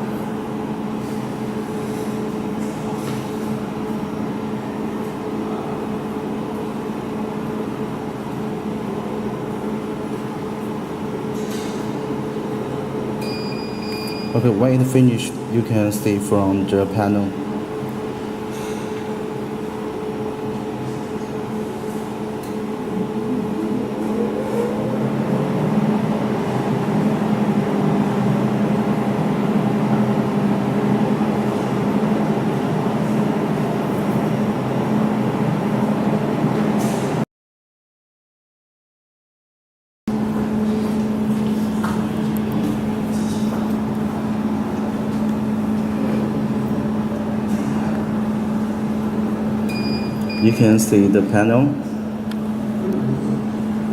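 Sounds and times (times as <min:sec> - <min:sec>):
water pump humming: 0:00.0 - 0:36.6, 0:40.1 - 0:53.9.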